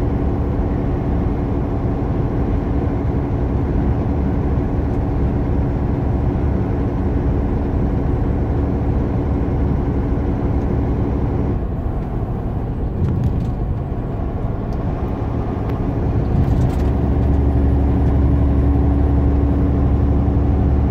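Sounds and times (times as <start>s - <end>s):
road noise inside truck cab: 0.0s - 20.9s
truck engine drone: 0.0s - 20.9s.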